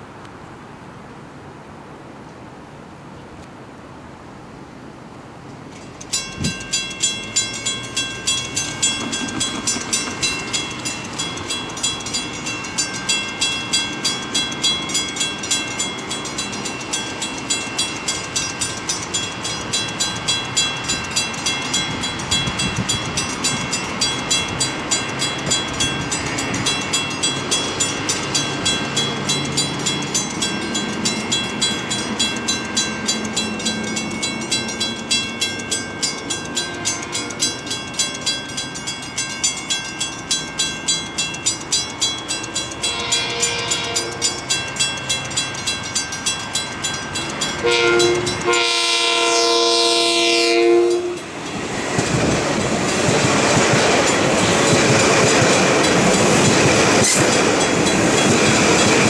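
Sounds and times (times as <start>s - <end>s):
railroad crossing warning bell ringing: 5.6s - 59.0s.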